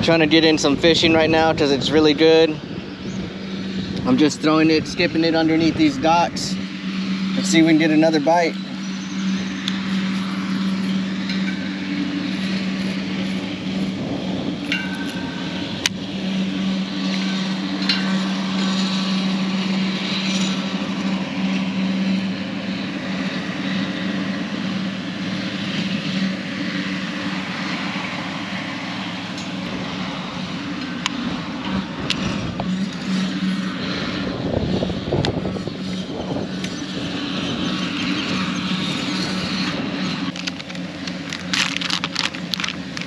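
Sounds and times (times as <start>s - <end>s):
wind noise: 0.0s - 22.3s, 23.4s - 43.0s
motor drone: 0.0s - 43.0s.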